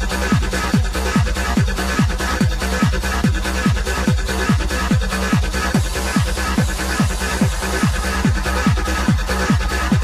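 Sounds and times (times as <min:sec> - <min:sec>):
deep kick drum: 0:00.0 - 0:10.0
electronic dance music: 0:00.0 - 0:10.0
steady bass line: 0:00.0 - 0:10.0.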